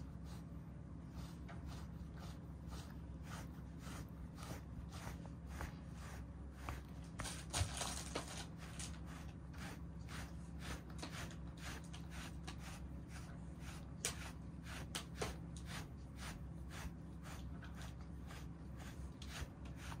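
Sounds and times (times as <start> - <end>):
brush stroking cat fur: 0.0 - 20.0.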